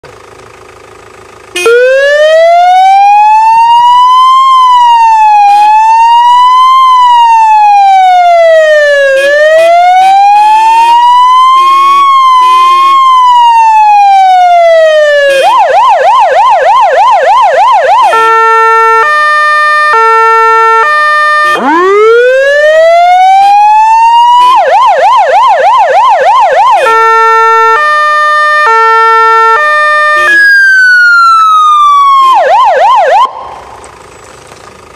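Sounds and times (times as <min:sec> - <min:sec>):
electronic siren wailing and yelping: 0:01.6 - 0:33.6.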